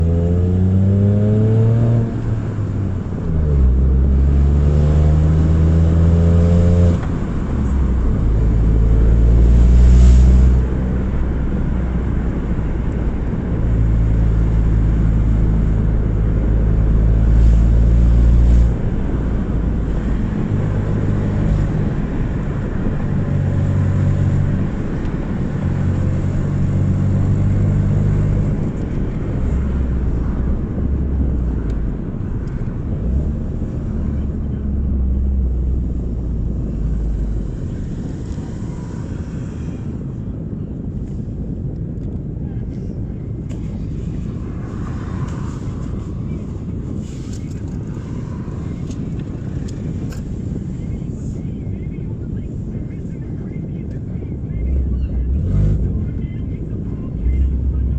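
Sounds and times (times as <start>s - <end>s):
car engine revving: 0.0s - 40.5s, 42.7s - 51.4s, 54.2s - 57.9s
loud low exhaust rumble: 0.0s - 57.9s.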